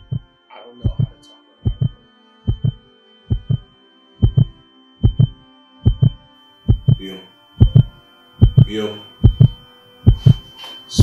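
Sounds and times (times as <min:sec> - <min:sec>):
heartbeat thumps: 0:00.0 - 0:07.0, 0:07.6 - 0:10.4.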